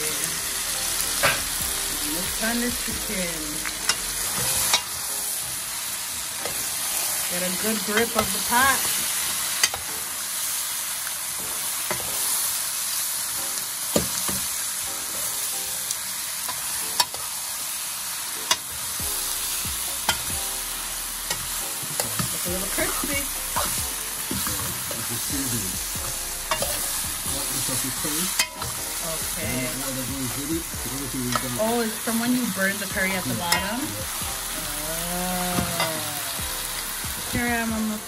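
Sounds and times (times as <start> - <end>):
chicken sizzling in a pot: 0.0 - 38.0.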